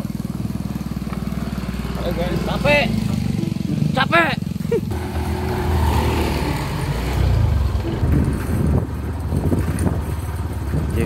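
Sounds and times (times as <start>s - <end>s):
motor scooter engines running: 0.0s - 11.0s.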